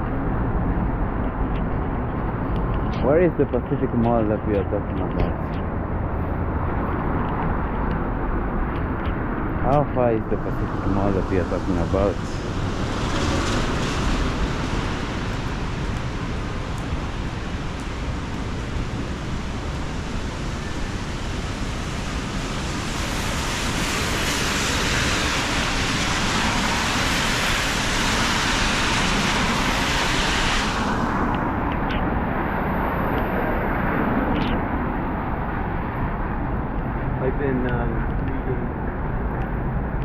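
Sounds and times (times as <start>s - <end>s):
traffic on wet road: 0.0s - 40.0s.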